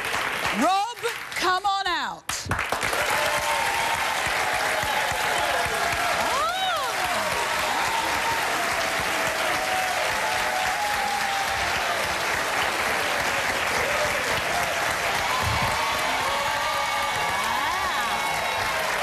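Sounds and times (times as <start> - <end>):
audience clapping: 0.0 - 19.0
cheering and whoops: 2.9 - 19.0.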